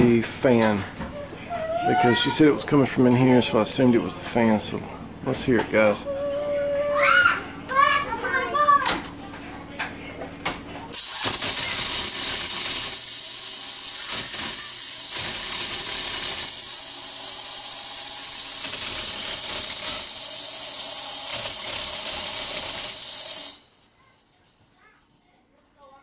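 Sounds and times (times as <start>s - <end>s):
blower fan running loud: 0.0s - 23.8s.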